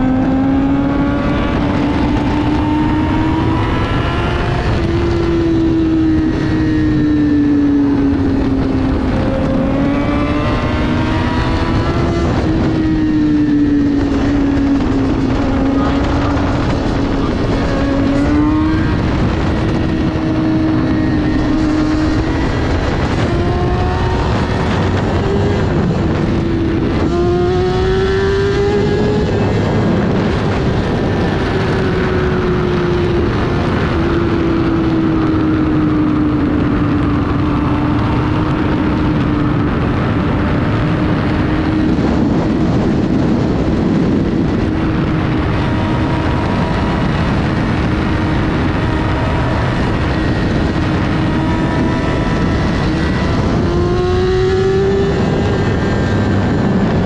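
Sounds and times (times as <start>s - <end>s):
motorcycle engine at high revs: 0.0s - 57.0s
wind and road noise: 0.0s - 57.0s.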